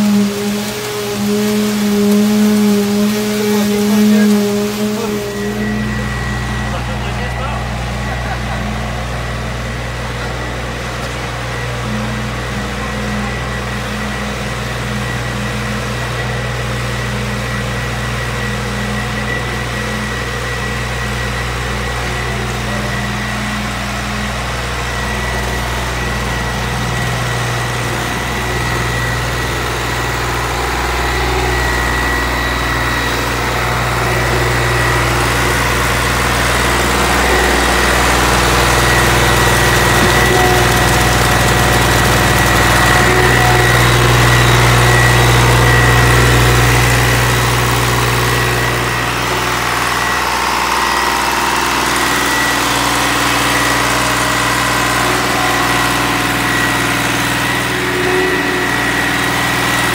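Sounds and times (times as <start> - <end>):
concrete pump engine whining: 0.0 - 59.9.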